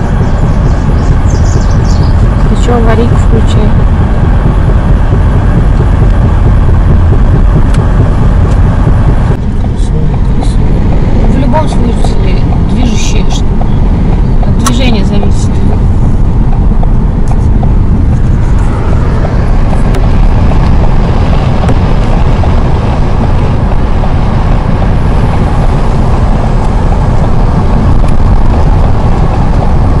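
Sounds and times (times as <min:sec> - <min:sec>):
road and wind noise in car: 0:00.0 - 0:30.0.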